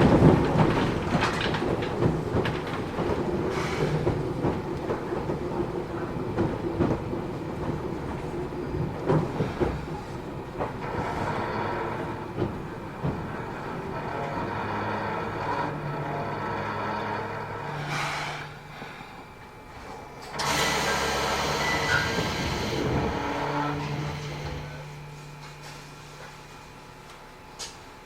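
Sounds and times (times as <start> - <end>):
train wheels clacking over rail joints: 0.0 - 25.6
train rumble: 0.0 - 28.0.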